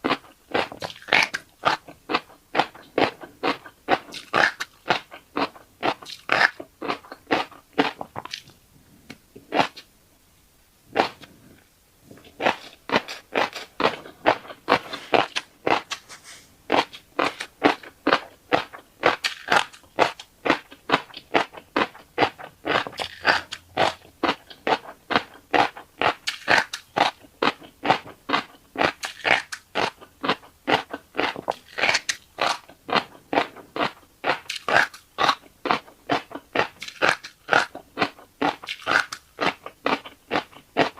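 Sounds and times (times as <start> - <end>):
chewing fish roe popping: 0.0 - 9.9, 10.9 - 40.9.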